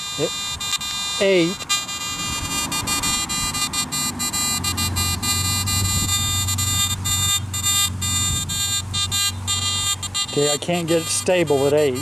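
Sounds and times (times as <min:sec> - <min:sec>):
metal detector buzzing tone: 0:00.0 - 0:12.0.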